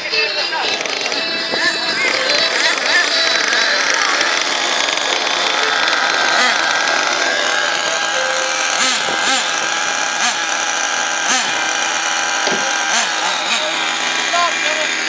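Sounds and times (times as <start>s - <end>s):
toy truck engines revving: 0.0s - 15.0s.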